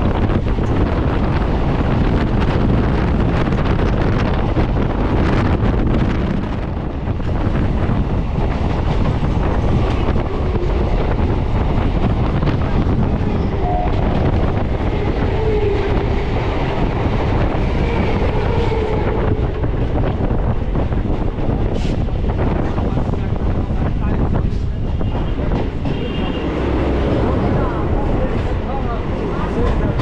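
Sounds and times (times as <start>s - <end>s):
train coaches rumbling and rattling: 0.0s - 30.0s.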